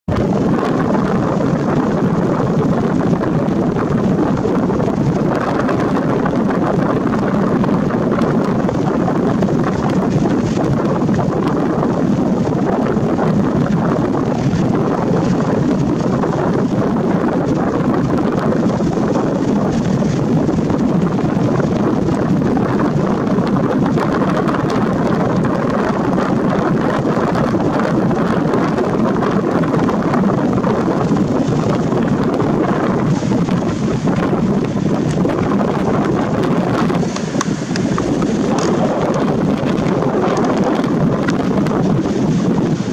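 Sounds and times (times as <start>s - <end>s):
wind on microphone: 0.0s - 42.9s.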